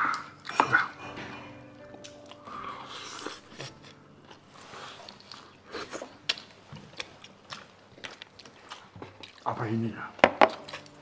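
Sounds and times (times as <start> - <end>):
people chewing and biting: 0.0 - 11.0.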